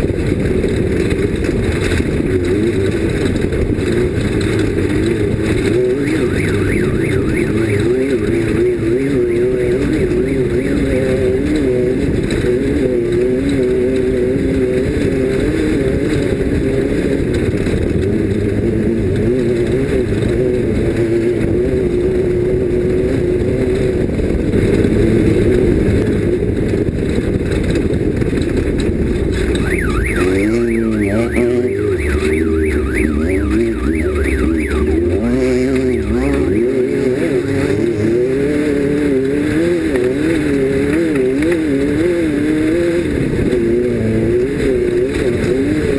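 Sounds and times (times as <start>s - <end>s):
race vehicle engine revving: 0.0s - 45.9s.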